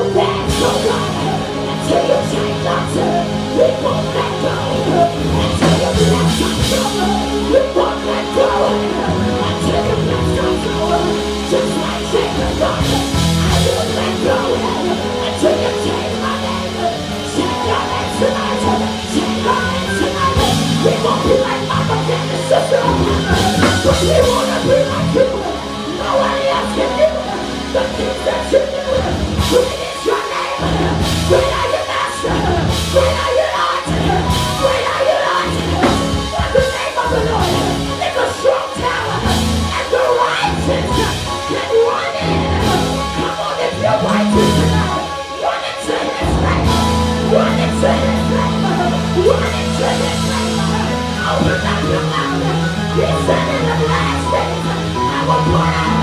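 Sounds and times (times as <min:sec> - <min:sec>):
band with drums and keyboards: 0:00.0 - 0:56.0
woman singing into microphone: 0:00.0 - 0:56.0.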